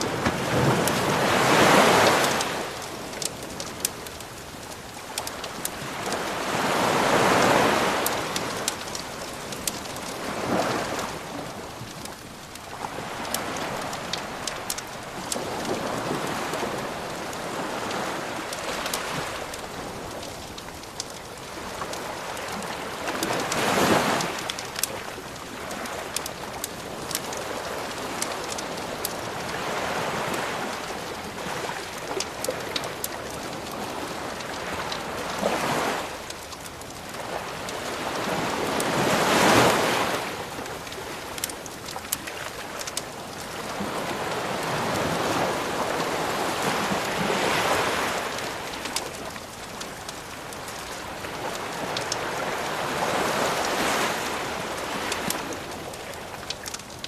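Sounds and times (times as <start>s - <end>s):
waves washing on shore: 0.0s - 57.0s
wood fire crackling: 0.0s - 57.0s.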